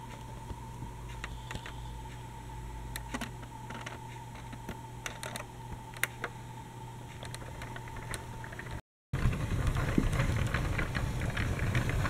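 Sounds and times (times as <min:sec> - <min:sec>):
electrical hum with thin whine: 0:00.0 - 0:12.0.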